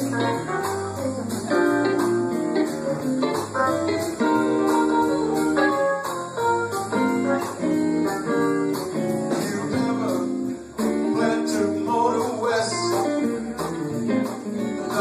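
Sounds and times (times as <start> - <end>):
live guitar music: 0.0 - 15.0.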